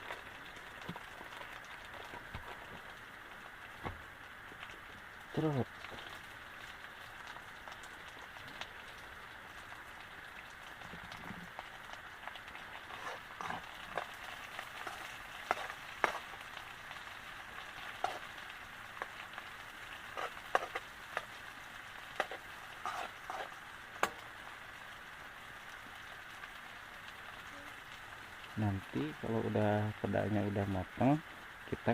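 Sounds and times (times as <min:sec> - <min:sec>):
fish sizzling in hot oil: 0:00.0 - 0:31.9.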